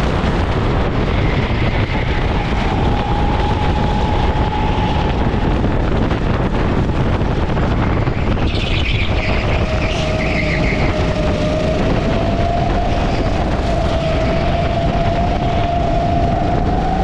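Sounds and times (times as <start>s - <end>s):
go-kart engine: 0.0s - 17.0s
wind buffeting microphone: 0.0s - 17.0s.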